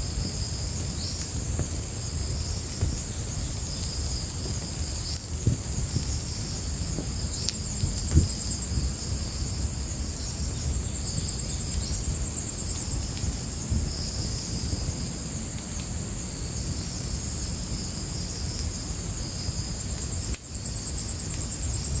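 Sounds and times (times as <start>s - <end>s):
crickets chirping: 0.0s - 22.0s
fire rumbling and crackling: 0.0s - 22.0s.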